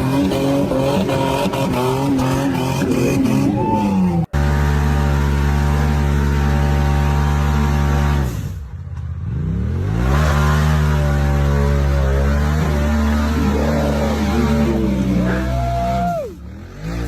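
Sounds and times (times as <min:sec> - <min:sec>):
engine revving at high revs: 0:00.0 - 0:03.5, 0:04.3 - 0:08.6, 0:09.2 - 0:15.8, 0:16.4 - 0:17.0.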